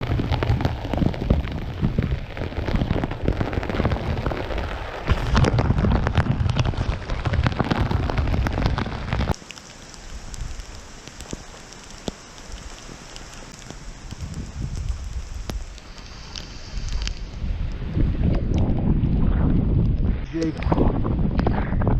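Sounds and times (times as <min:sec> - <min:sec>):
rain: 0:00.0 - 0:21.9.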